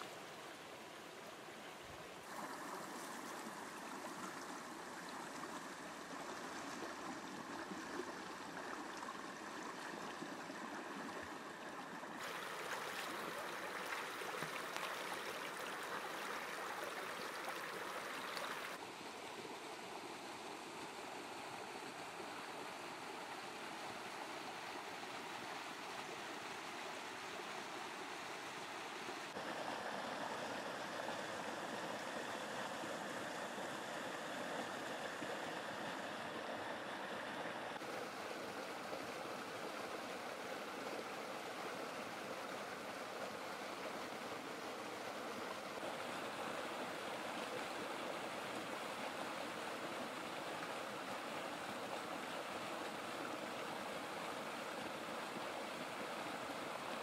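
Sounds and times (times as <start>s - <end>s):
stream burbling over stones: 0.0s - 57.0s.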